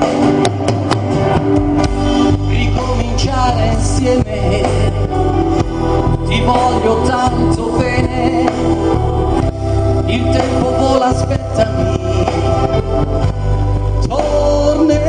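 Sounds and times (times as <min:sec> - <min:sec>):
live band music: 0:00.0 - 0:15.0
person singing: 0:02.0 - 0:15.0.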